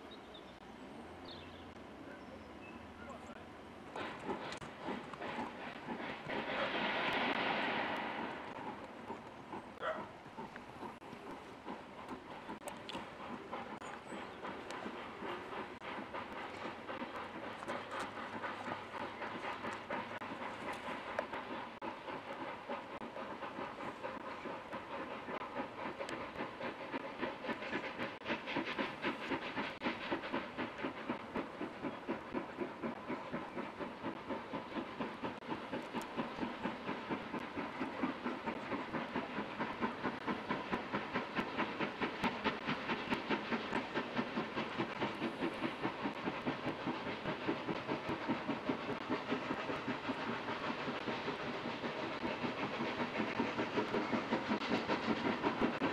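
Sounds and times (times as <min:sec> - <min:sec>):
steam hiss: 0:00.0 - 0:55.9
steam locomotive exhaust beating: 0:00.0 - 0:55.9.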